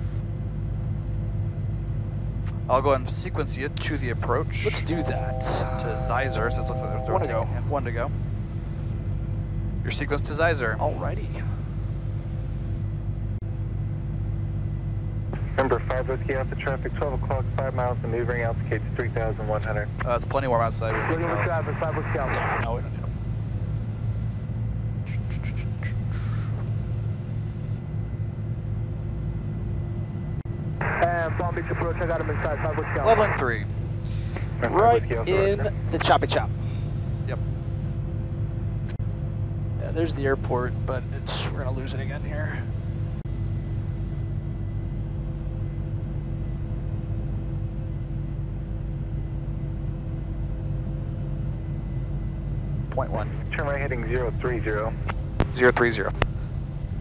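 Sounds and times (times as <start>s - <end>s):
aircraft cockpit rumble: 0.0s - 57.0s
faint steady hums: 0.0s - 57.0s.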